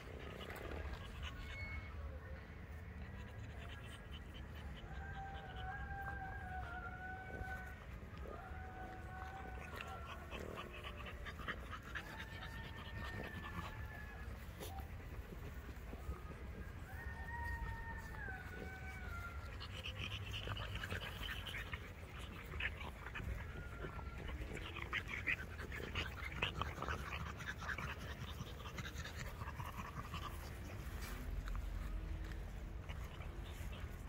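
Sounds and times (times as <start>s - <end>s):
puppies panting and snuffling: 0.0s - 34.0s
puppy whining: 0.0s - 34.0s.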